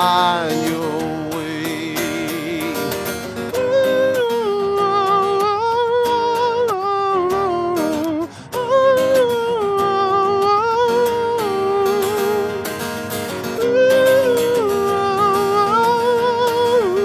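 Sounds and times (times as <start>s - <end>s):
wordless sung melody: 0.0s - 17.0s.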